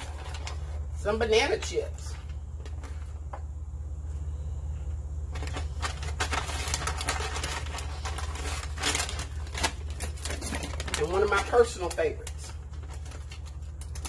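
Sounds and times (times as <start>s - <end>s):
plastic snack bag crinkling: 0.0s - 3.3s, 5.3s - 14.0s
steady low hum: 0.0s - 14.0s.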